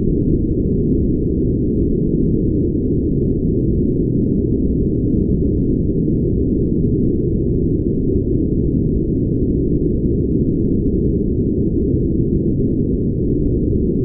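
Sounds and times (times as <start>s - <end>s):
deep rumbling brown noise: 0.0s - 14.0s.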